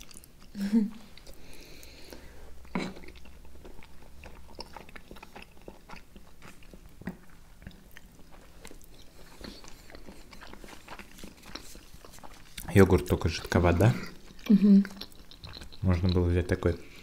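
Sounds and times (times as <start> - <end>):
chewing with mouth clicks: 0.0 - 17.0.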